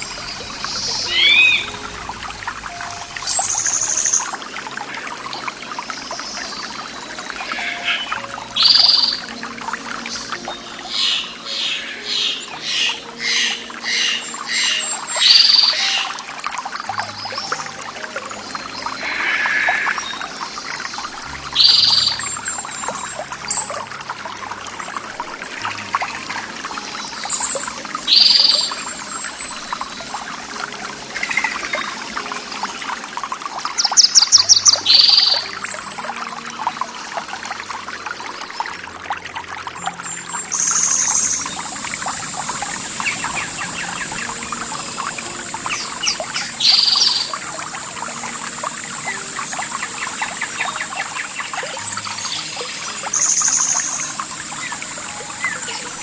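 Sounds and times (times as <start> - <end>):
birds calling: 0.0 - 56.0
water trickling and pouring: 0.0 - 56.0.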